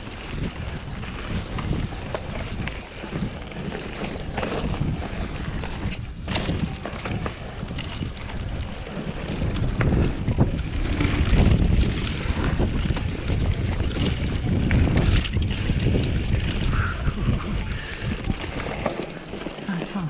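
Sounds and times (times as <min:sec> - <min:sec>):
bike clicks and knocks: 0:00.0 - 0:20.0
bike tyre noise: 0:00.0 - 0:20.0
wind buffeting microphone: 0:00.0 - 0:20.0.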